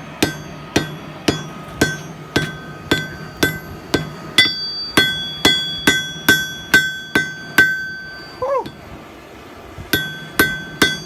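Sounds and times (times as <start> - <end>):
hammer striking steel on anvil: 0.0 - 8.9, 9.9 - 11.0.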